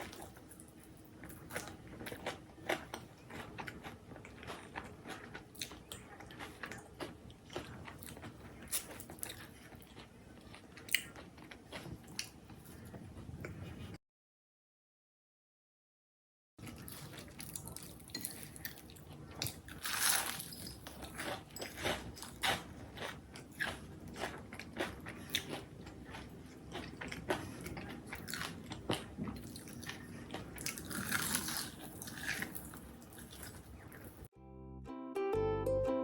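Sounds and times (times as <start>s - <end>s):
person chewing crunchy food: 0.0s - 13.9s, 16.6s - 34.3s.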